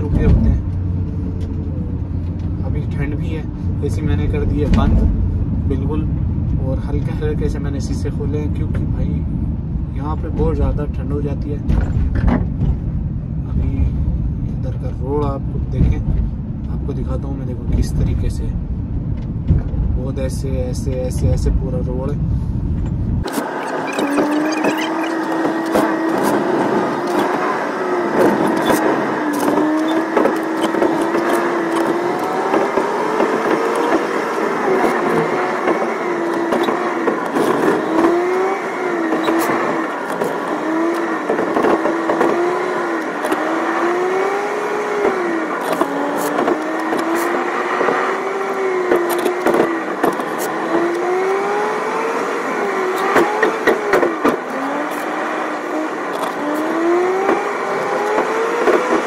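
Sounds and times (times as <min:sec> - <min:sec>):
car engine: 0:00.0 - 0:59.0
road noise inside car: 0:00.0 - 0:59.0.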